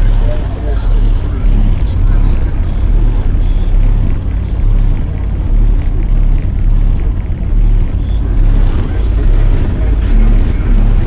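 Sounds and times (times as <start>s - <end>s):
deep bass thudding: 0.0s - 11.0s
vehicle body rattling: 0.0s - 11.0s.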